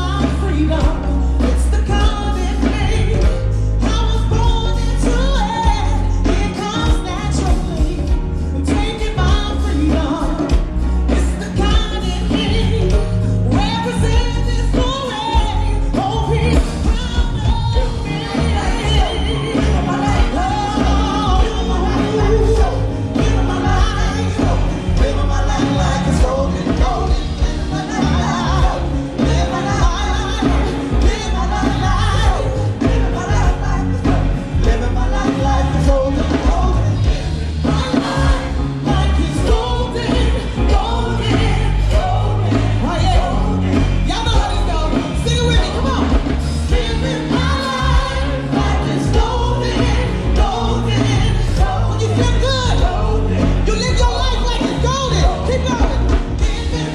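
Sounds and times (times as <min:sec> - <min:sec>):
band music with singer: 0:00.0 - 0:56.9.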